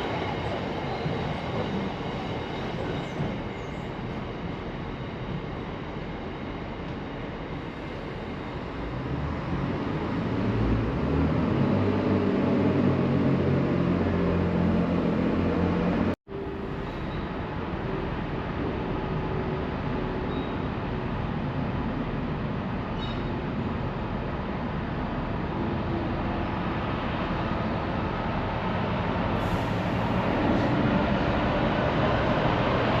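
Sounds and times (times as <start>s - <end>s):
train running past: 0.0s - 33.0s.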